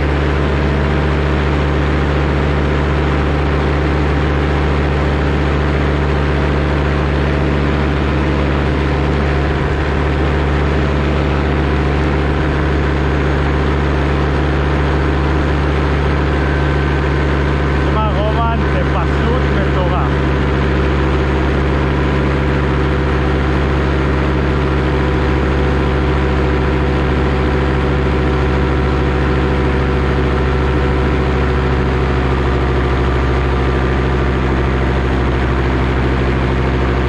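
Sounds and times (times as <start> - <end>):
paramotor engine droning: 0.0 - 37.0.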